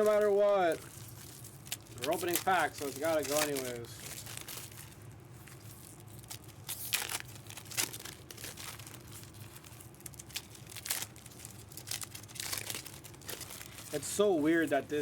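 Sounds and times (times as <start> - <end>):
foil wrappers crinkling and tearing: 0.0 - 15.0.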